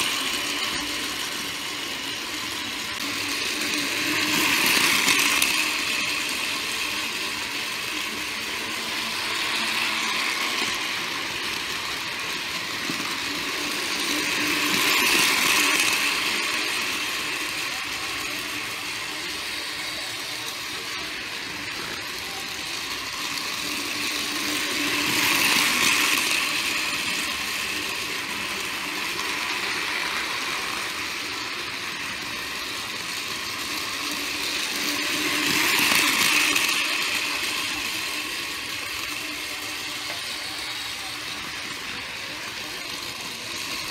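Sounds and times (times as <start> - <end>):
toy train motor whir: 0.0 - 43.9.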